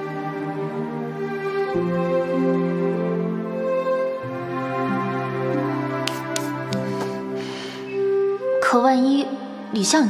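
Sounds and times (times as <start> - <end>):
slow sad music held chords: 0.0 - 10.0.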